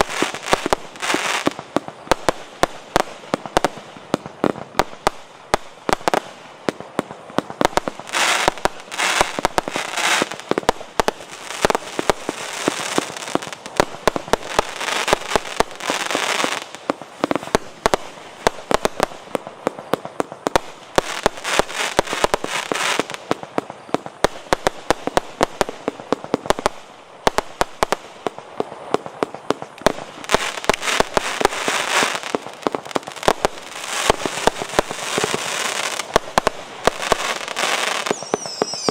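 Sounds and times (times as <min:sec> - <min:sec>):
firework crackle: 0:00.0 - 0:38.9.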